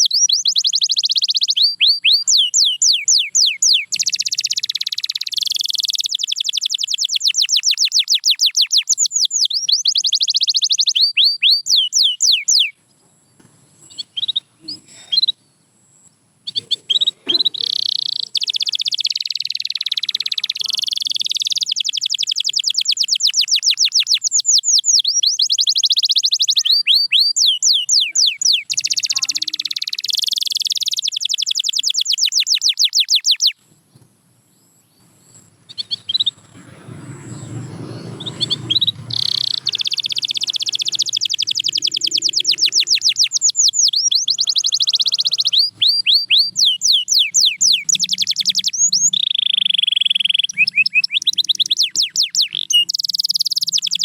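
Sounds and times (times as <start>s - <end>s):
canary trilling: 0.0s - 12.8s, 16.4s - 33.6s, 35.4s - 54.0s.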